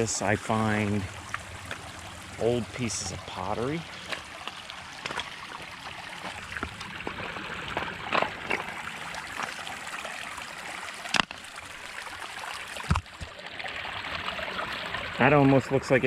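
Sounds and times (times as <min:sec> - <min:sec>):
stream trickling over pebbles: 0:00.0 - 0:16.0.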